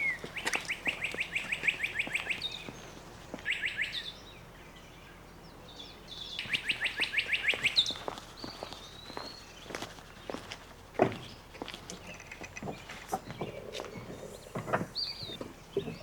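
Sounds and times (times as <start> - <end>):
songbird rapid trill: 0.0 - 16.0.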